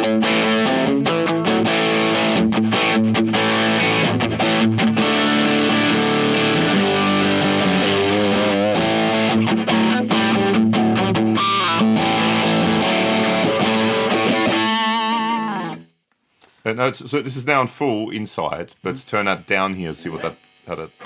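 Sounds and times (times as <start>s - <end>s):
distorted electric guitar chords: 0.0s - 15.9s, 19.9s - 21.0s.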